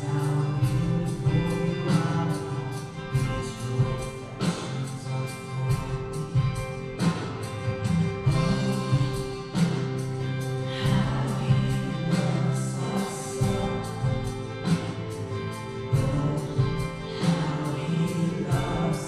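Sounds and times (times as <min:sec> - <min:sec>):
worship music singing: 0:00.0 - 0:19.0.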